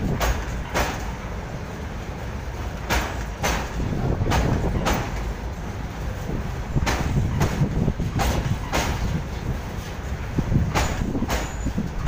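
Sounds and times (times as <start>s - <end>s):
heavy rumble of wagon wheels: 0.0s - 12.0s
wheels clacking over rail joints: 0.0s - 12.0s.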